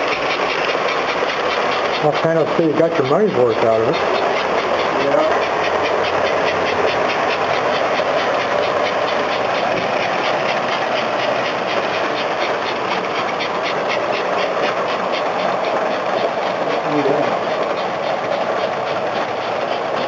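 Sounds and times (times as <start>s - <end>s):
model train motor whirring: 0.0s - 20.0s
wheels ticking over rails: 0.0s - 20.0s.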